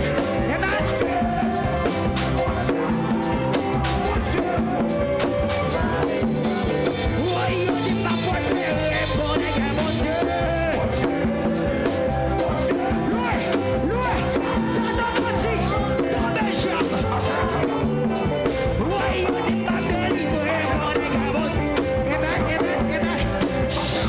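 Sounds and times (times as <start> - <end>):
band playing upbeat music: 0.0 - 24.0
bass line: 0.0 - 24.0
drum kit beat: 0.0 - 24.0.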